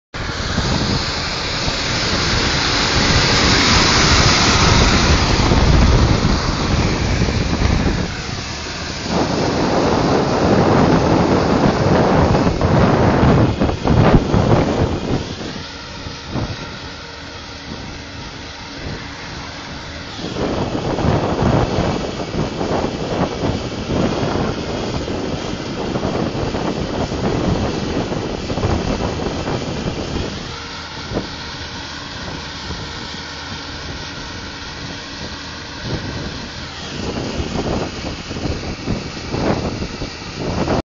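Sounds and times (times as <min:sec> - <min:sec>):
tractor engine drone: 0:00.1 - 0:40.8
wind buffeting microphone: 0:00.2 - 0:40.8.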